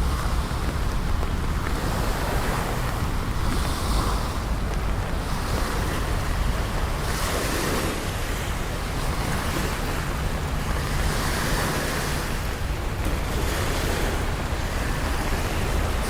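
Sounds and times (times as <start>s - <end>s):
rain falling on street: 0.0s - 16.0s
traffic rumble: 0.0s - 16.0s.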